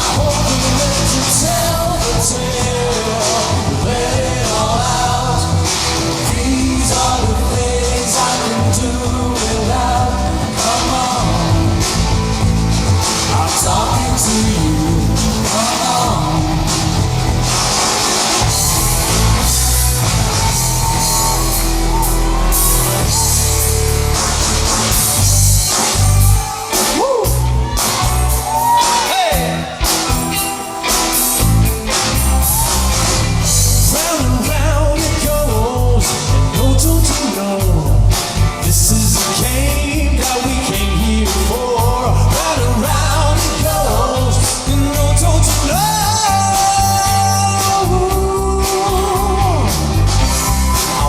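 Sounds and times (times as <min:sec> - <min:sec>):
person singing: 0:00.0 - 0:12.4, 0:13.0 - 0:31.4, 0:32.3 - 0:51.0
electric guitar: 0:00.0 - 0:51.0
live rock band: 0:00.0 - 0:51.0
steady drum beat: 0:00.0 - 0:51.0.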